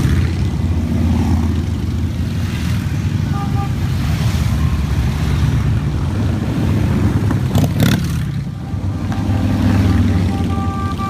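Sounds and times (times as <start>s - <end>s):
motorcycles passing slowly: 0.0s - 11.0s.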